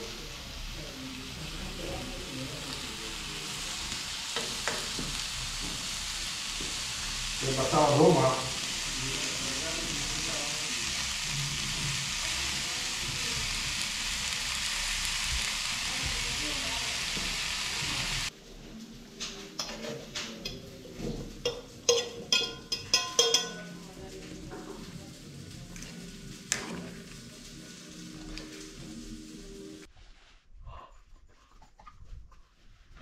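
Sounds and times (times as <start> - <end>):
food sizzling in a pan: 0.0 - 29.9.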